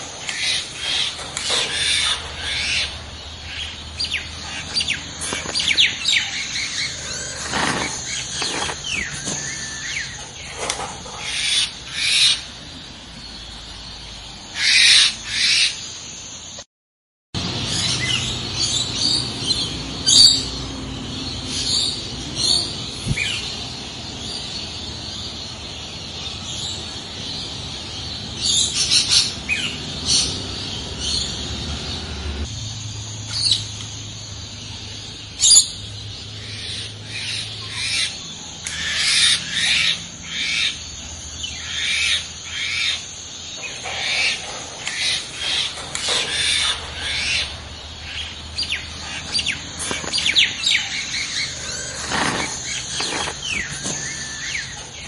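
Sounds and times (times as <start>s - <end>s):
birds chirping: 0.0s - 16.6s, 17.4s - 55.0s
outdoor background noise: 0.0s - 16.7s, 17.4s - 55.0s.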